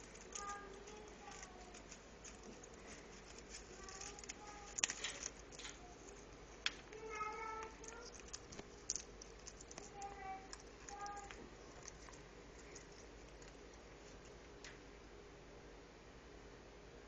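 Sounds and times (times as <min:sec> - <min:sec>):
beak clicking and crunching on toy: 0:00.0 - 0:14.4.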